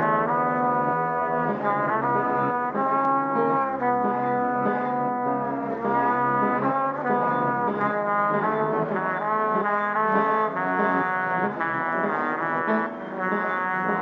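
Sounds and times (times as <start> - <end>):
brass-like instrumental music: 0.0 - 14.0.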